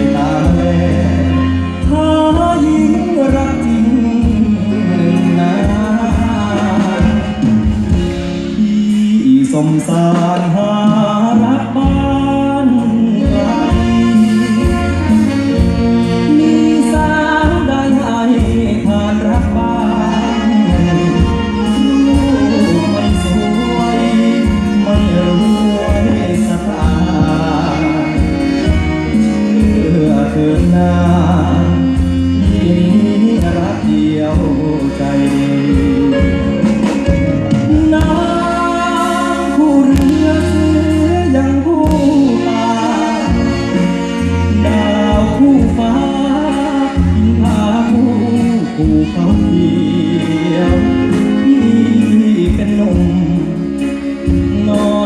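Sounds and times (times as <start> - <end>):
bass beat: 0.0 - 55.0
live band playing slow song: 0.0 - 55.0
person singing: 0.0 - 55.0.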